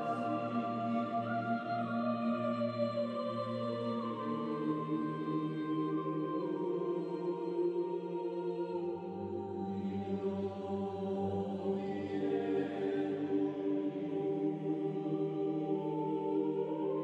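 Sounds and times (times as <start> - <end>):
slow choral chords music: 0.0 - 17.0.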